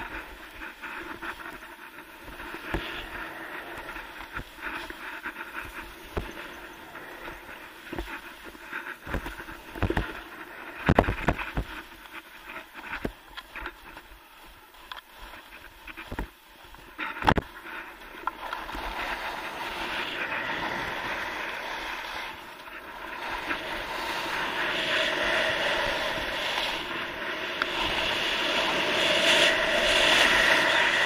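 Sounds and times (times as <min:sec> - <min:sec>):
skis scraping over snow: 0:00.0 - 0:31.0.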